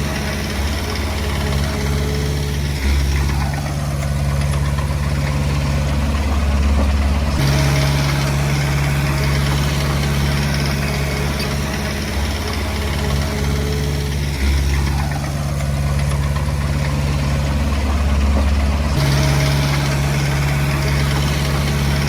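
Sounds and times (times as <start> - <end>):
heavy diesel engine drone: 0.0 - 22.0.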